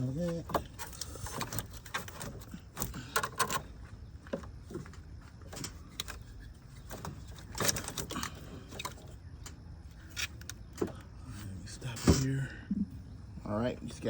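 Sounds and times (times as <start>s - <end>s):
tools and car parts clattering: 0.0s - 12.5s.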